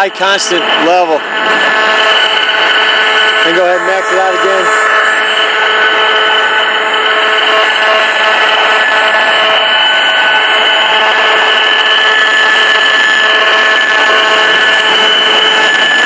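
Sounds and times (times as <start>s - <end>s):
steady electronic tones: 0.0s - 16.0s.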